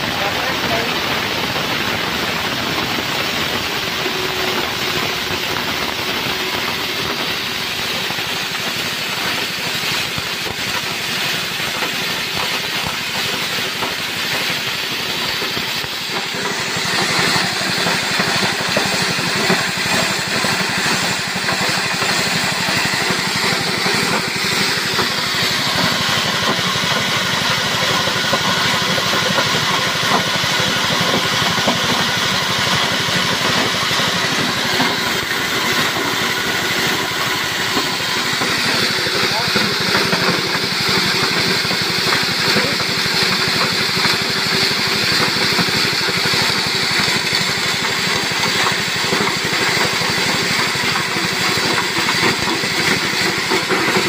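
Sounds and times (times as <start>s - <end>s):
chopper blades grinding: 0.0s - 48.6s
small engine running: 0.0s - 54.0s.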